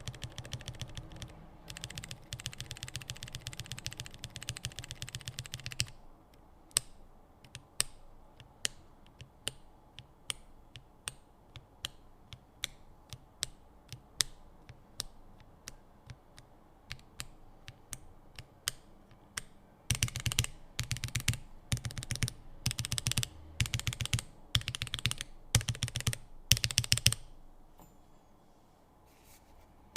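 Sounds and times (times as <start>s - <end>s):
mechanical keyboard typing: 0.0s - 6.0s, 6.7s - 27.3s.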